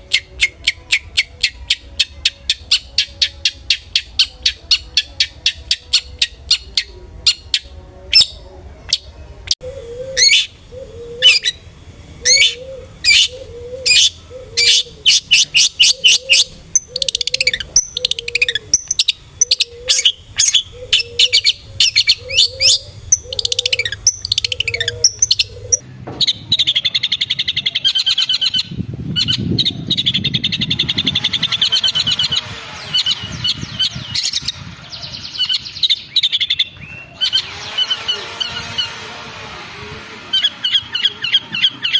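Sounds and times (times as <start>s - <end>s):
shrike calling with sharp chirps: 0.0s - 39.0s.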